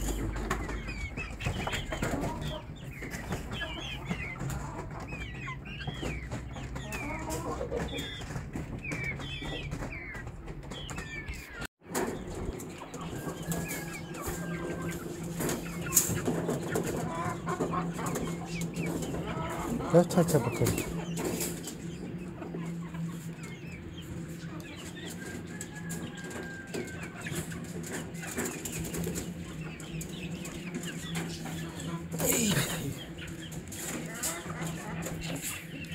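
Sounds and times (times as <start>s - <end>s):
chickens clucking: 0.0s - 35.9s
chicks peeping: 0.0s - 35.9s.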